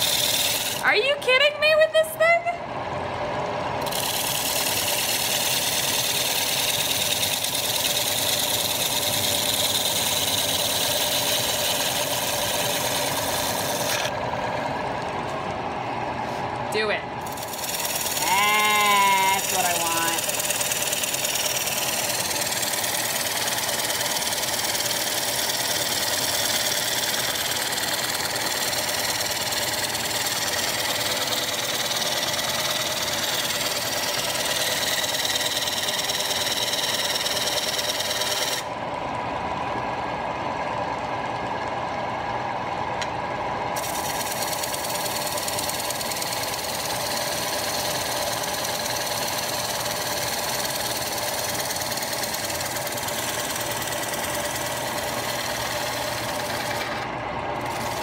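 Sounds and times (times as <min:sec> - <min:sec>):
wood lathe humming: 0:00.0 - 0:00.9, 0:03.8 - 0:16.6, 0:17.2 - 0:42.0, 0:43.0 - 0:58.0.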